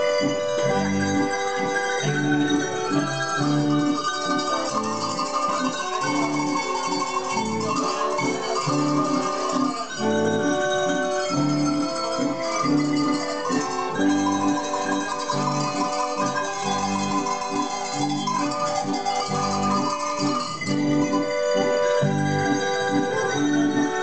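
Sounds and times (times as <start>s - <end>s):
accordion: 0.0s - 24.0s
handbells ringing a tune: 0.0s - 24.0s.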